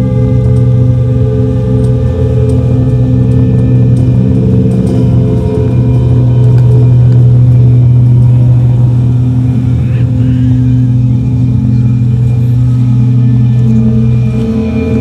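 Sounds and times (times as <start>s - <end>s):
low drone with held tones: 0.0s - 15.0s.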